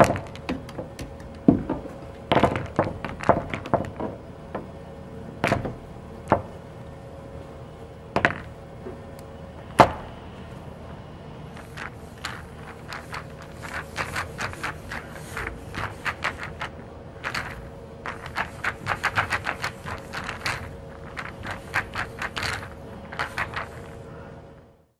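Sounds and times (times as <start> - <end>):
pool balls clacking: 0.0 - 6.9, 8.1 - 10.3, 11.5 - 24.1.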